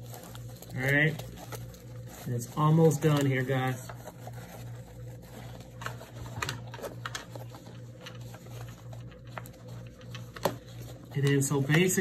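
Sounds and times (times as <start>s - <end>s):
steady low hum: 0.0s - 12.0s
straps rustling through webbing: 0.0s - 12.0s.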